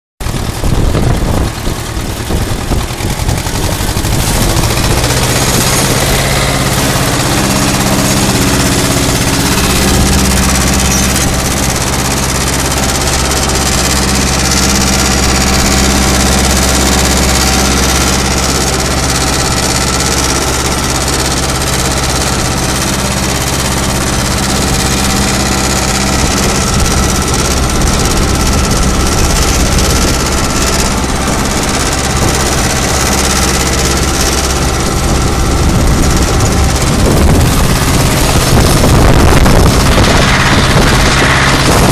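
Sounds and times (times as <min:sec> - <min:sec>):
tractor diesel engine under load: 0:00.2 - 0:41.9.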